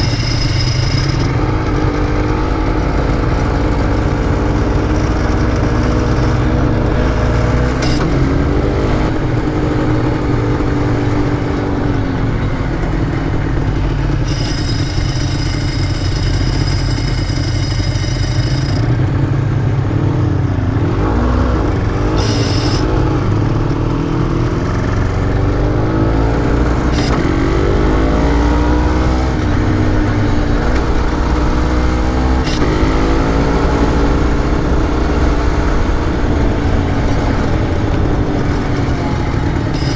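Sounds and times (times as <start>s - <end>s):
high whine: 0.0s - 19.3s, 20.7s - 39.9s
motorcycle engine revving: 0.0s - 39.9s.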